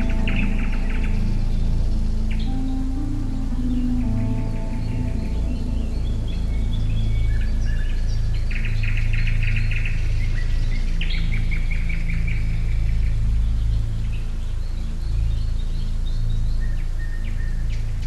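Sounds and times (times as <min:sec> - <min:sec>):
songbirds chirping and trilling: 0:00.0 - 0:18.0
steady low hum: 0:00.0 - 0:18.0.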